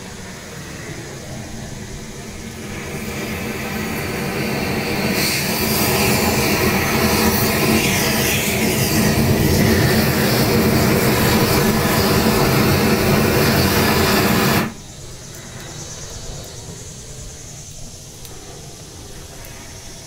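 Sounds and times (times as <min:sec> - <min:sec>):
faint hiss: 0:00.0 - 0:20.0
propane torch roaring: 0:00.0 - 0:20.0.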